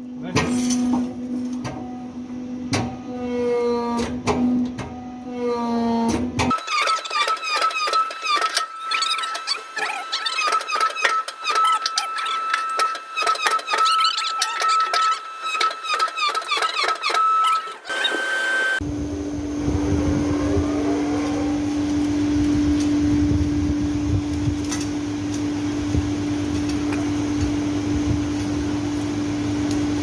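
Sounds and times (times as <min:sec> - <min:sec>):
machine motor hum: 0:01.1 - 0:30.0.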